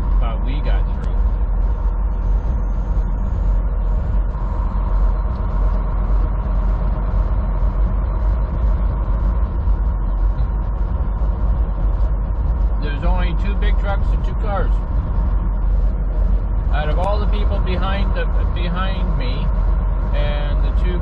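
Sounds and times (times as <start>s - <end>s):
faint hum: 0.0s - 21.0s
truck engine and road drone: 0.0s - 21.0s.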